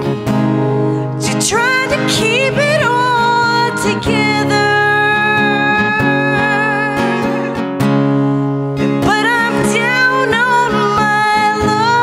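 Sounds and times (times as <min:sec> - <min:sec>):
acoustic guitars strumming: 0:00.0 - 0:12.0
woman singing: 0:01.0 - 0:07.8, 0:08.8 - 0:12.0.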